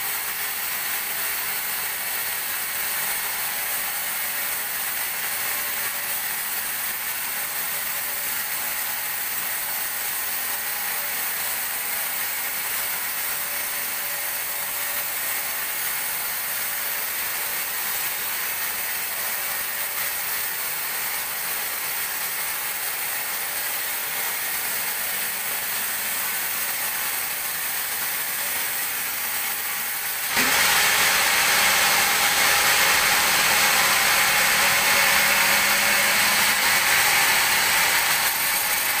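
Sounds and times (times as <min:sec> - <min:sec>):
band saw running: 0:00.0 - 0:39.0.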